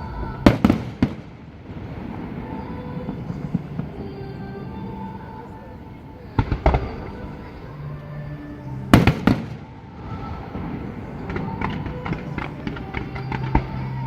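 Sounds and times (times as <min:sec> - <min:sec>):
fireworks booming: 0:00.0 - 0:14.0
fireworks crackling: 0:00.0 - 0:14.0.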